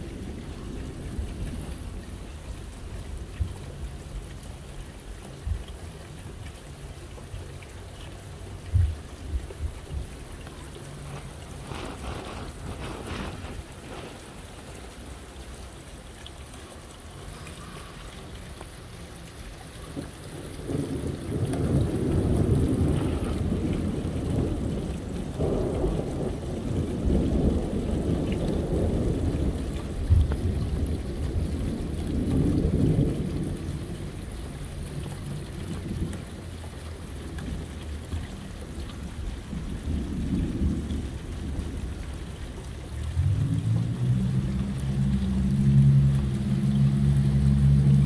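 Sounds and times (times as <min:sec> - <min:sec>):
low rumble of thunder: 0:00.0 - 0:15.6, 0:19.4 - 0:48.0
steady rain falling: 0:00.0 - 0:48.0.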